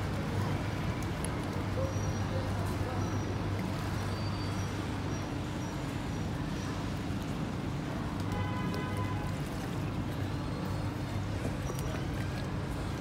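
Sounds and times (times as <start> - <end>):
city street noise: 0.0 - 13.0.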